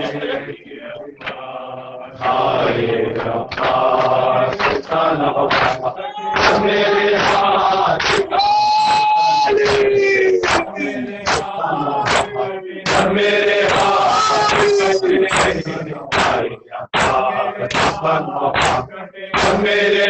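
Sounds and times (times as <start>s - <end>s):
lead reciter: 0.0s - 20.0s
men chanting a lament: 0.0s - 20.0s
rhythmic chest-beating slaps: 0.0s - 20.0s.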